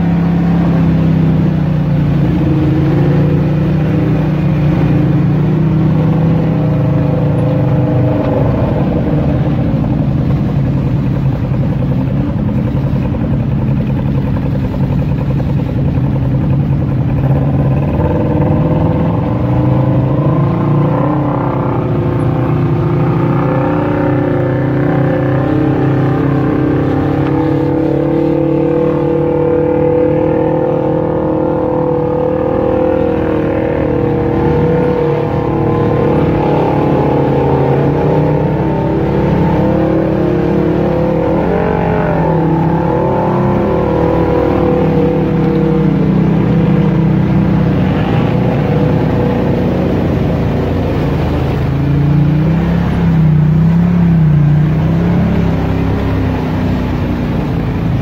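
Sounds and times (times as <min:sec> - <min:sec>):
utility vehicle engine running: 0:00.0 - 0:58.0.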